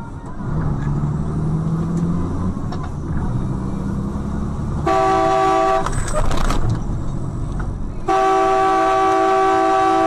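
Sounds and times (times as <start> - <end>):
low road rumble: 0.0 - 10.0.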